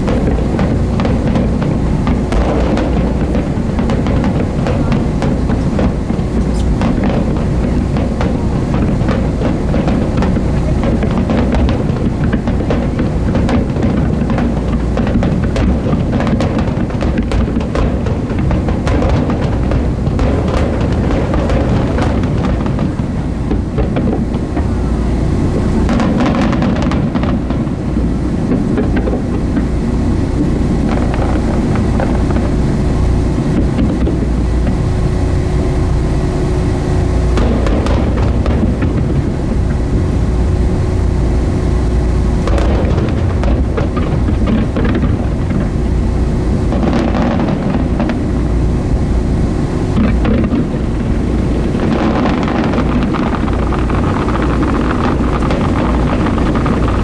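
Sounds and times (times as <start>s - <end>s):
boat engine rumble: 0.0s - 57.0s
fireworks booming: 0.0s - 57.0s.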